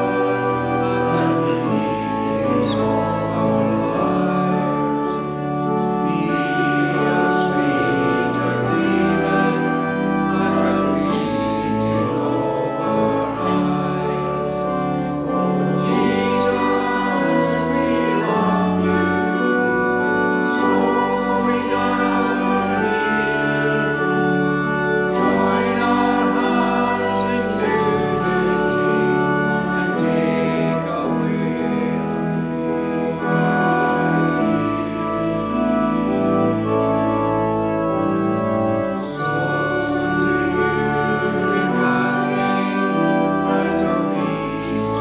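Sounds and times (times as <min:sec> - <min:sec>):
church organ chords: 0:00.0 - 0:45.0
congregation singing a hymn: 0:00.0 - 0:45.0.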